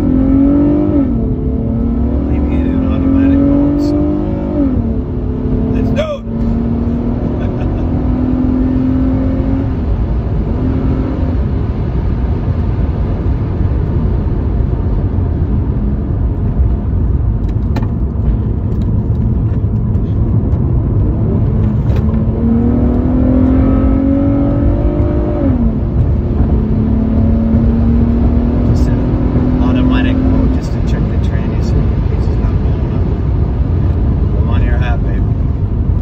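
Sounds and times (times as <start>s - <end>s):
car engine running: 0.0s - 36.0s
road noise: 0.0s - 36.0s.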